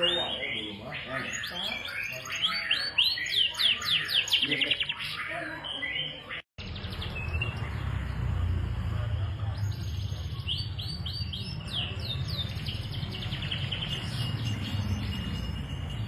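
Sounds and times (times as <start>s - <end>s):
canary singing: 0.0s - 8.2s, 9.5s - 16.0s.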